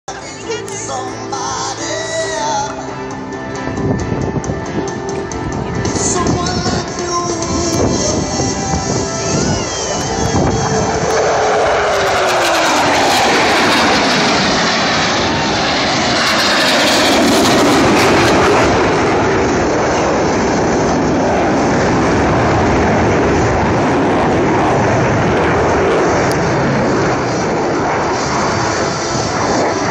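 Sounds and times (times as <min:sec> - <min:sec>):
aircraft engine roar: 0:00.1 - 0:29.9.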